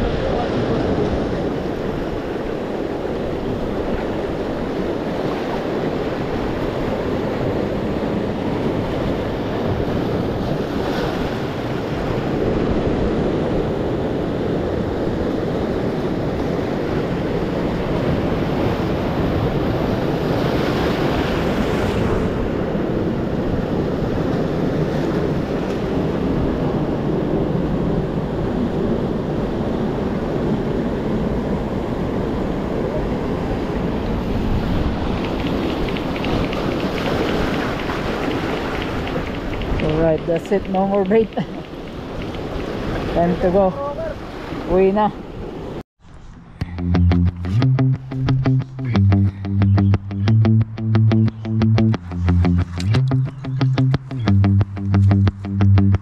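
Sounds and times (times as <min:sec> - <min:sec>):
ocean surf breaking on rocks: 0:00.0 - 0:45.8
wind buffeting microphone: 0:00.0 - 0:46.8.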